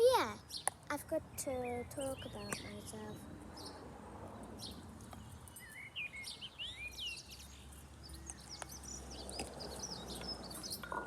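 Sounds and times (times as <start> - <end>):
birds chirping and singing: 0.0 - 3.8, 4.6 - 11.0.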